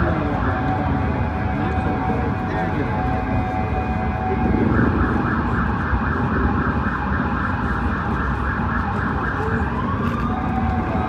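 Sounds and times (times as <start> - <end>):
warbling siren-like tone: 0.0 - 11.0.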